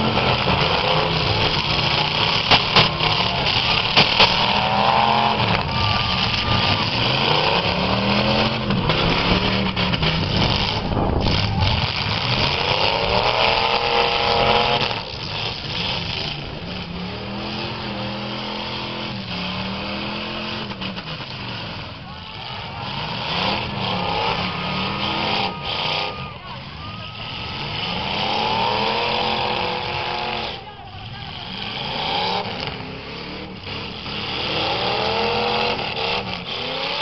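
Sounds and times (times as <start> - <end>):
car engines revving hard: 0.0 - 37.0
cars ramming: 0.0 - 37.0.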